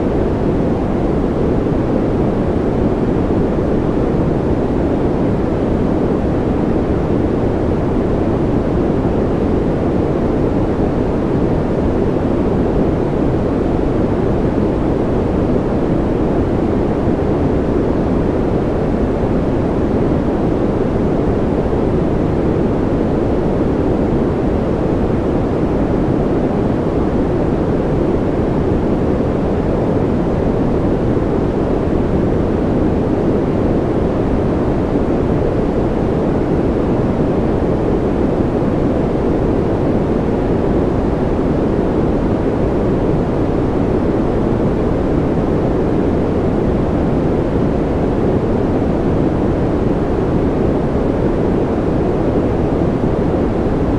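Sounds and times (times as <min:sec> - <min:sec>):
low rumbling brown noise: 0:00.0 - 0:53.9.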